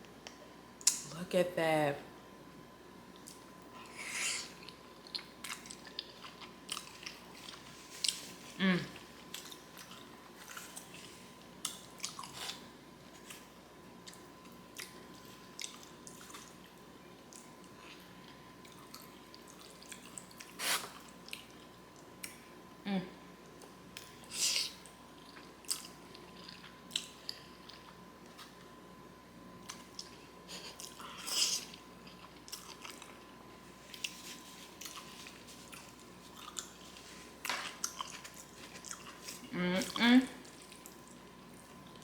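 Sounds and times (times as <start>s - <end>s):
chewing with wet smacking: 3.1s - 22.5s, 23.4s - 28.8s, 29.6s - 42.0s.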